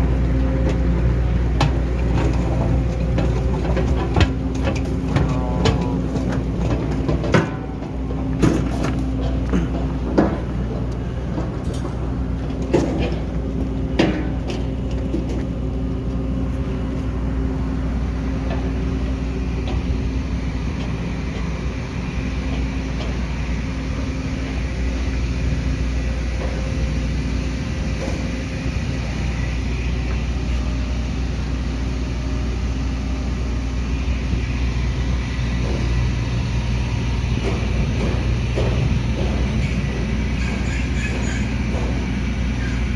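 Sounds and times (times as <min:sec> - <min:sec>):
low engine hum: 0:00.0 - 0:42.9.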